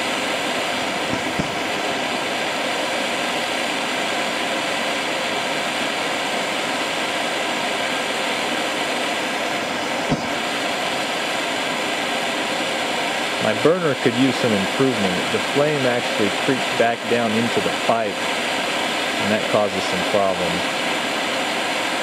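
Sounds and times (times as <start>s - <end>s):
propane torch hissing roar: 0.0s - 22.0s.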